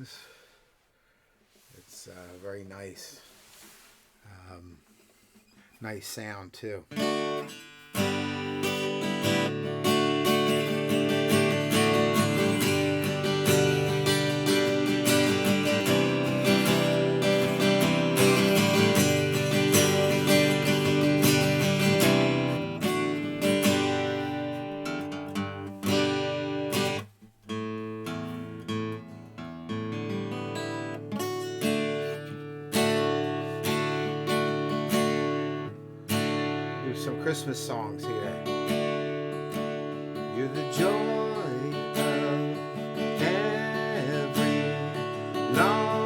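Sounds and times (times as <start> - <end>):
acoustic guitar strummed chords: 6.9 - 46.0.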